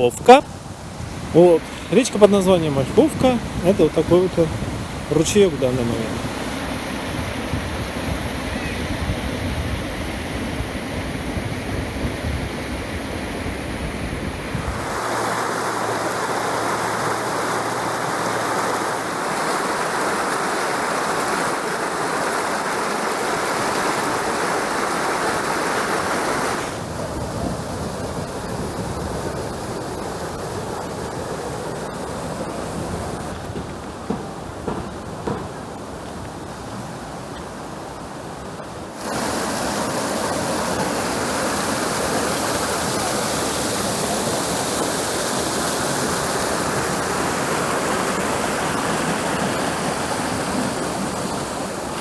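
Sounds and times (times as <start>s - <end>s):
small stream flowing: 0.0s - 34.0s, 35.0s - 52.0s.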